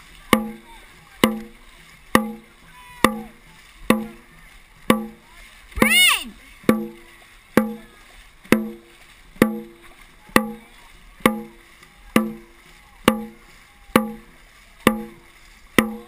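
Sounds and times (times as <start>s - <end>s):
faint water noise: 0.0s - 16.0s
drum beaten in steady rhythm: 0.3s - 16.0s.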